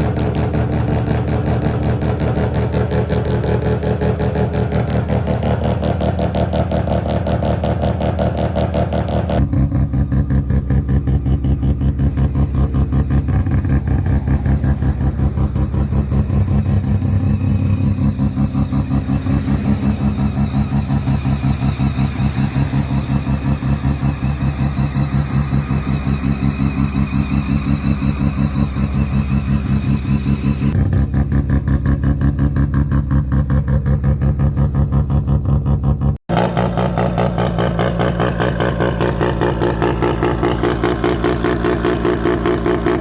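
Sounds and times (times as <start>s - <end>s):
deeper pulsing engine: 0.0s - 43.0s
rotary engine pulsing idle: 0.0s - 43.0s.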